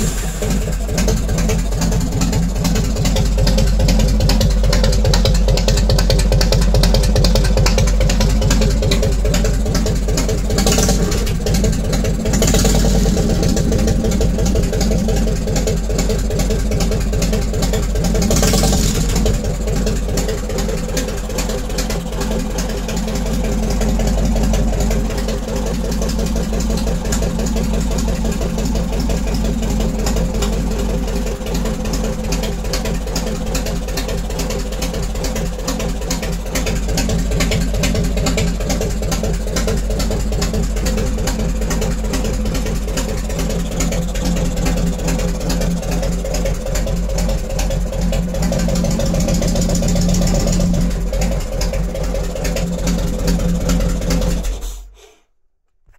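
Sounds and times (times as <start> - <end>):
motorcycle engine idling loud: 0.0 - 54.9.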